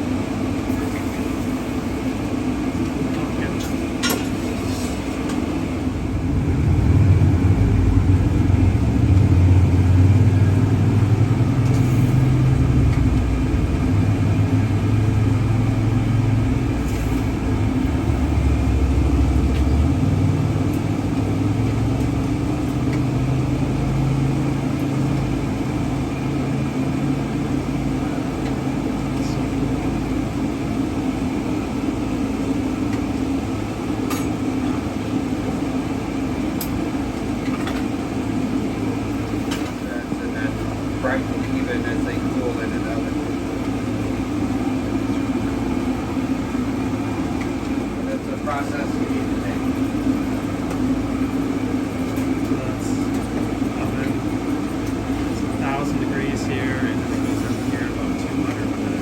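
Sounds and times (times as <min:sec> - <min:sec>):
car engine: 0:00.0 - 0:59.0
road noise: 0:00.0 - 0:59.0.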